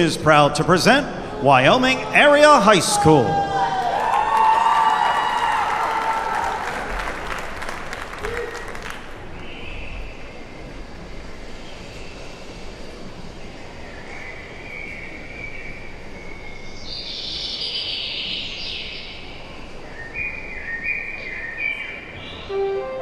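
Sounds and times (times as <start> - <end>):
steady hall hum: 0.0 - 23.0.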